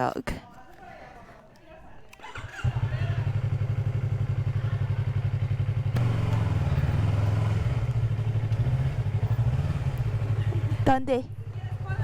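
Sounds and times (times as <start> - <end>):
motorcycle engine idling: 2.2 - 12.0.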